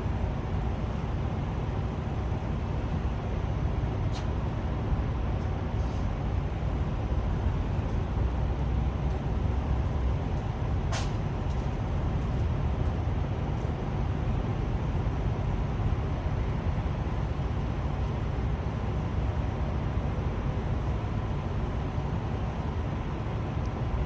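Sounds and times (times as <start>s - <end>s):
diesel truck engines idling: 0.0s - 24.0s.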